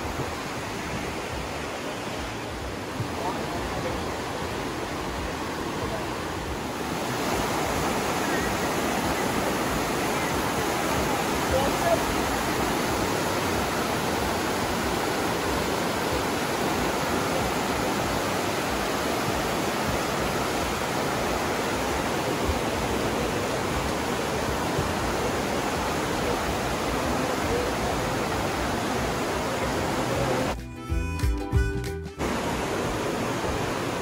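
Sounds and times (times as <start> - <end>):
river rushing: 0.0 - 30.6, 32.2 - 34.0.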